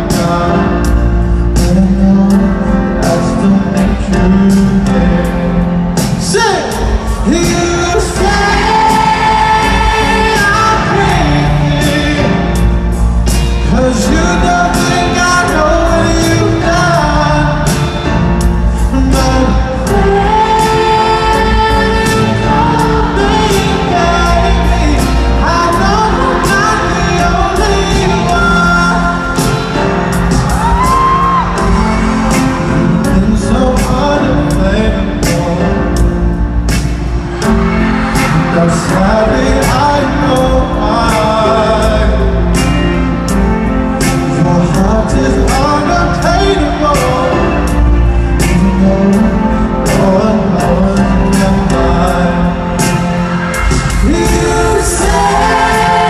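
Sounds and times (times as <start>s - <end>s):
lead vocal singing: 0.0s - 56.0s
live pop ballad: 0.0s - 56.0s.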